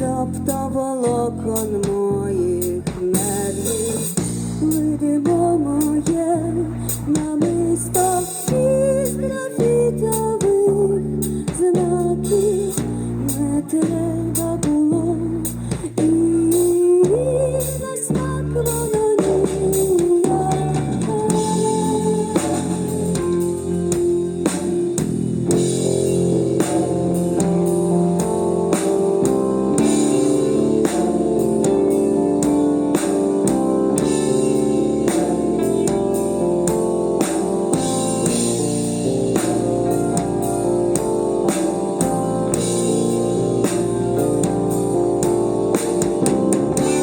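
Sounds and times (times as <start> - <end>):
bass guitar: 0.0 - 47.0
drum kit: 0.0 - 47.0
electric guitar: 0.0 - 47.0
sustained keyboard chords: 0.0 - 47.0.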